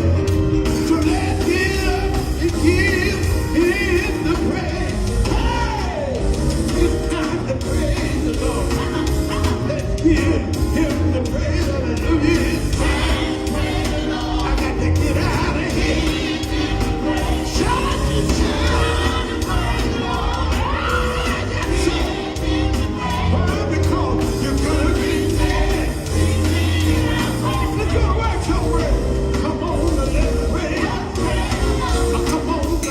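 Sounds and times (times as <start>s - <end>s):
band with heavy bass: 0.0s - 32.9s.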